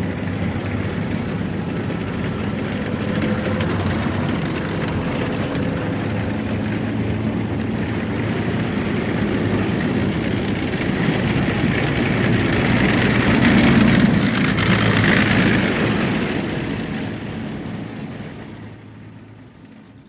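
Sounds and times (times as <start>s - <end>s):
armored vehicles rumbling: 0.0s - 20.0s.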